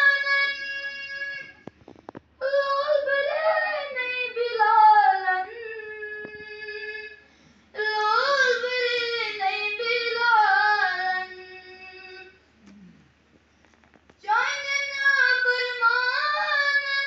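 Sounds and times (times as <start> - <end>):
boy singing unaccompanied: 0.0 - 1.6, 2.4 - 7.2, 7.8 - 12.4, 14.2 - 17.0.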